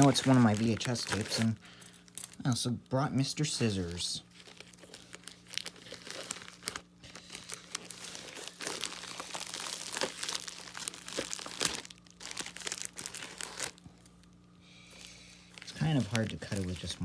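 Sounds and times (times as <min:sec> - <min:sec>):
package wrapping crinkling: 0:00.0 - 0:02.6, 0:03.6 - 0:17.0.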